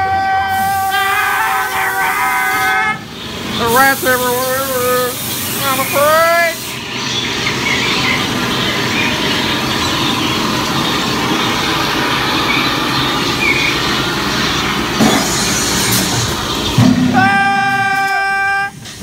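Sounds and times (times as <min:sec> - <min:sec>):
ride car rumbling and rattling: 0:00.0 - 0:19.0.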